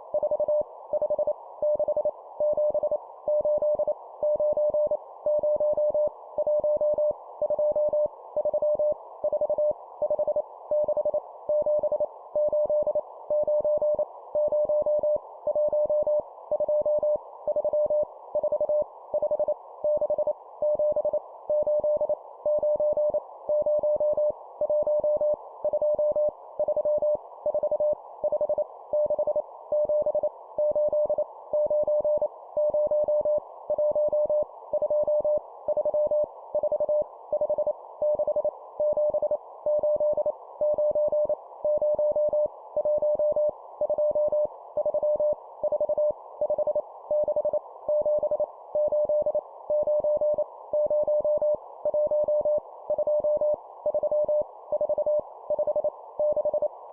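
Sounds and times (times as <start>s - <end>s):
morse code beeps: 10.7s - 56.7s.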